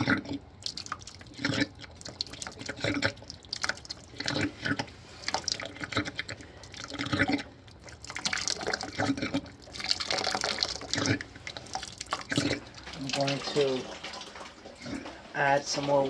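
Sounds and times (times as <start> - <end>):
water splashing from drain valve: 0.0 - 16.0.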